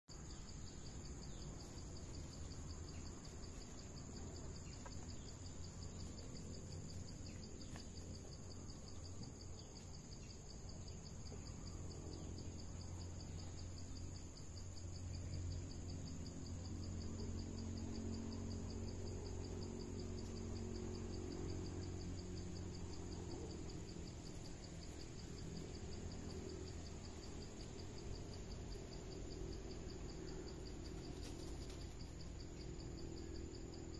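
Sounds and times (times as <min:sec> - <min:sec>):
forest insects buzzing: 0:00.1 - 0:33.9.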